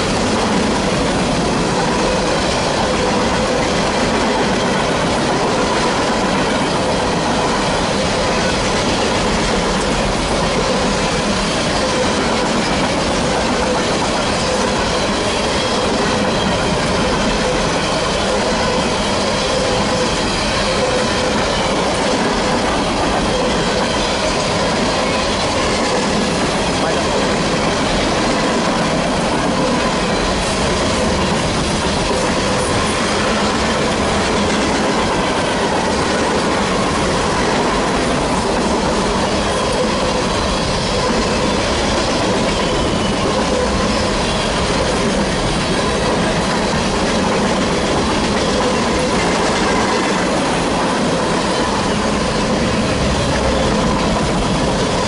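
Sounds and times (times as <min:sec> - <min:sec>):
train wheels rolling on rail: 0:00.0 - 0:55.0.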